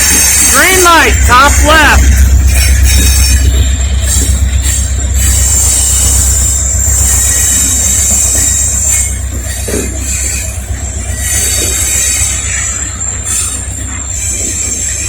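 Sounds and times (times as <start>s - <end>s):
deep rumble of train: 0.0s - 15.0s
train wheels squealing: 0.0s - 15.0s.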